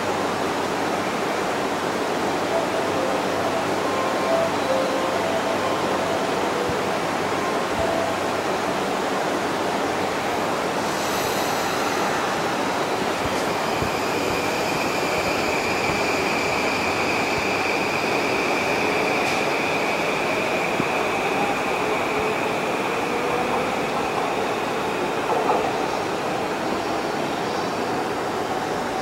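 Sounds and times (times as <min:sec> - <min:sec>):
electric train high whine: 0:00.0 - 0:29.0
station platform noise: 0:00.0 - 0:29.0.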